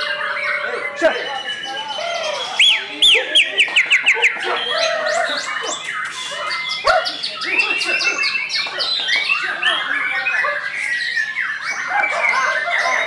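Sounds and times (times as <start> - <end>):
bird singing whistles and chatter: 0.0 - 13.0.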